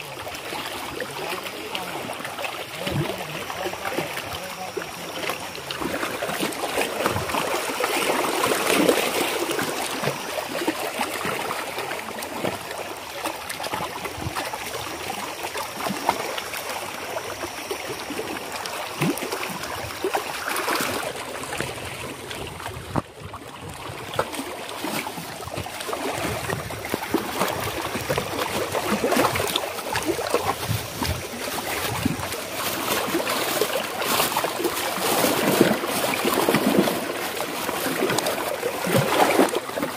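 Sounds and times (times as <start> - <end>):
small waves lapping on stones: 0.0 - 39.9
water sloshing and trickling: 0.0 - 39.9.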